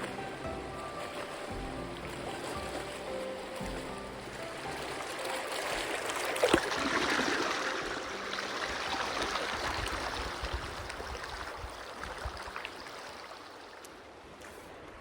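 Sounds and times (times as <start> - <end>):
creek flowing and rippling: 0.0 - 15.0.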